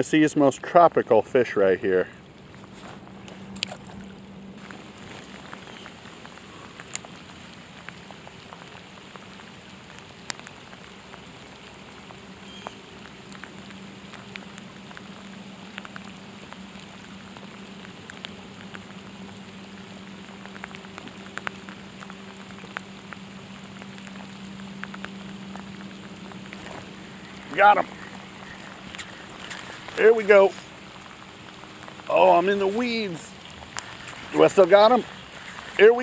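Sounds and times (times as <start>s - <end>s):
raindrops ticking close by: 0.0s - 36.0s
steady rain falling: 0.0s - 36.0s.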